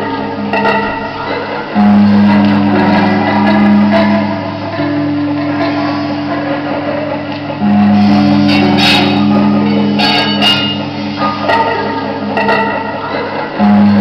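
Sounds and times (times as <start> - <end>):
live instrumental music: 0.0 - 14.0.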